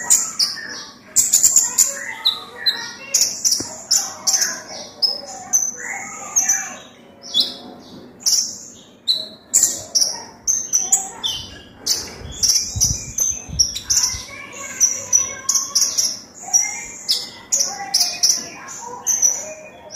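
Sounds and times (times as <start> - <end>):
bird singing high chirps: 0.0 - 19.9.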